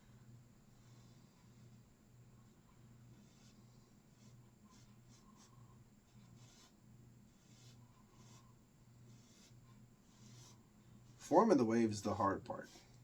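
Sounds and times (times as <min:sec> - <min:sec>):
brush strokes on canvas: 0:00.8 - 0:13.0.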